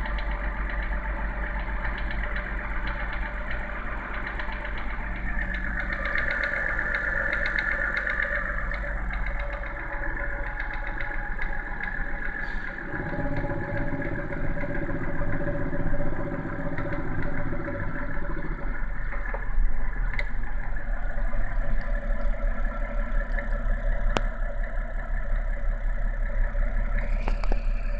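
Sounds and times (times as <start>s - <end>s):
car engine idling: 0.0s - 27.9s
engine knocking: 0.0s - 27.9s.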